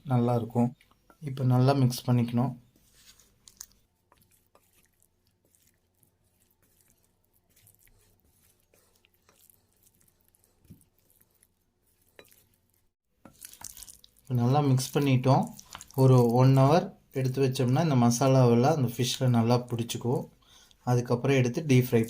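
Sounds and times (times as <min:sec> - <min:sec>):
wet squishing of hand mixing: 0:00.0 - 0:22.0.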